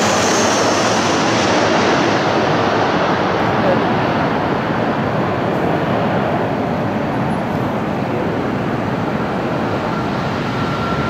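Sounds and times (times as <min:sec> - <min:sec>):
high jet whine: 0:00.0 - 0:11.0
jet engine roar: 0:00.0 - 0:11.0.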